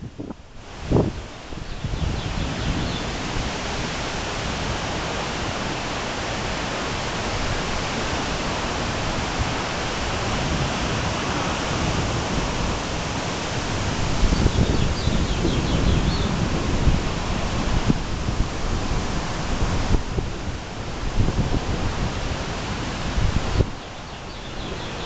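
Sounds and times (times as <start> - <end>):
storm wind through trees: 0.0 - 25.0
wind on microphone: 0.0 - 25.0.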